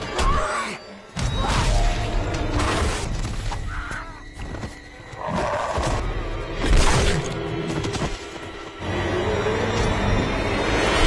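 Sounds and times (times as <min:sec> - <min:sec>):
film soundtrack music: 0:00.0 - 0:11.0.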